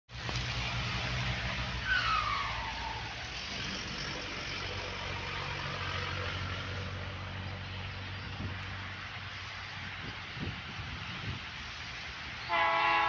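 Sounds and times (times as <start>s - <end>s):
low engine drone: 0.1s - 12.5s
vehicle passing by: 0.1s - 12.5s.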